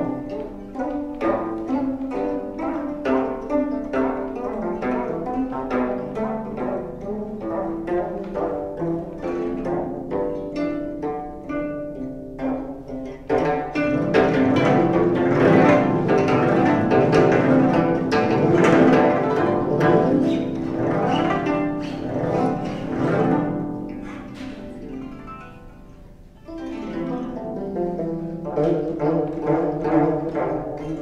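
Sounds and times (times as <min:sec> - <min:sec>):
zithers plucking ringing notes: 0:00.0 - 0:31.0.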